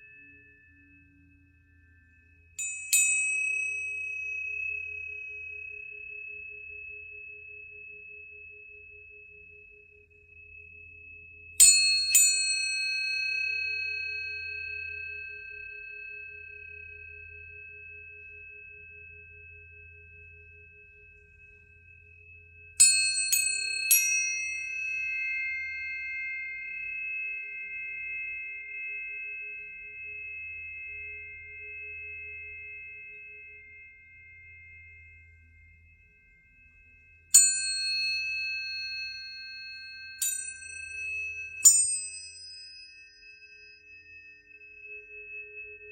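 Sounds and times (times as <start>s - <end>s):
tuning forks ringing: 0.0s - 45.9s.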